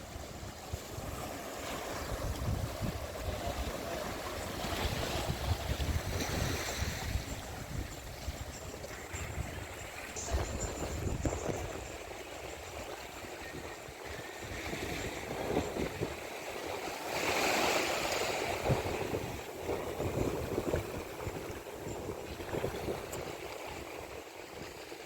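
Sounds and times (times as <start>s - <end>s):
sea waves washing on shore: 0.0s - 25.0s
wind buffeting microphone: 0.0s - 25.0s.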